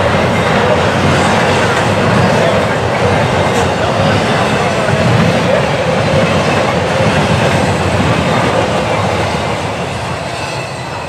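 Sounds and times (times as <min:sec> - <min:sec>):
train wheels clattering on rail: 0:00.0 - 0:11.0.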